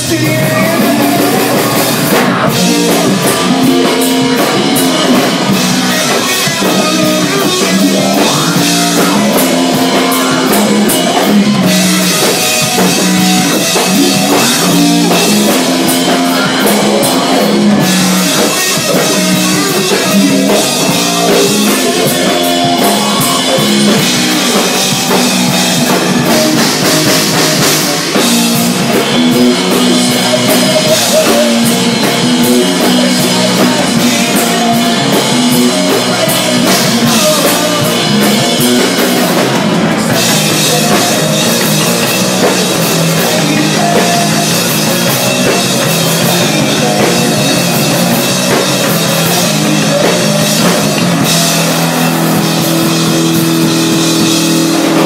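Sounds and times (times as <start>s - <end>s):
drum kit with cymbals: 0.0s - 55.0s
electric bass: 0.0s - 55.0s
electric guitar: 0.0s - 55.0s.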